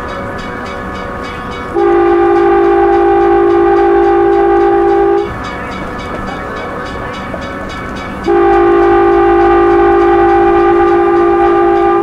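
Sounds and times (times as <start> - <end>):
train horn two-note blast: 0.0 - 12.0
wheels clicking on rail: 0.0 - 12.0.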